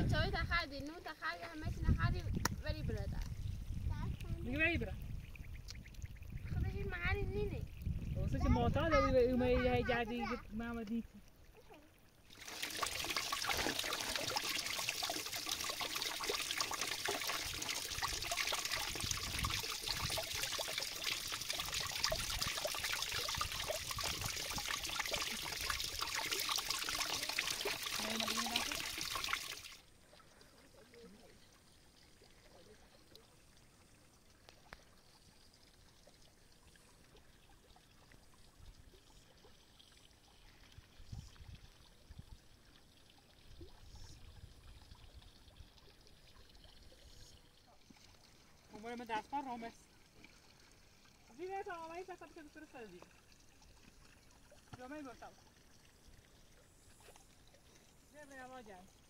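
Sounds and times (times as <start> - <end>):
water running: 0.0 - 59.0.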